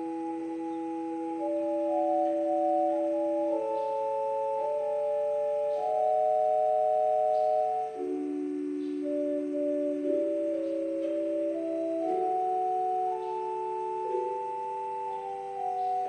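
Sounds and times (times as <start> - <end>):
organ playing held chords: 0.0 - 16.0.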